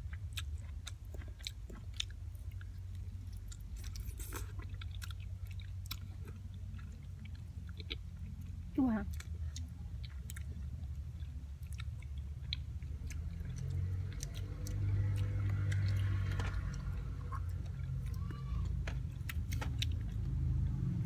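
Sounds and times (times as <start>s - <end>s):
person chewing: 0.0s - 20.6s.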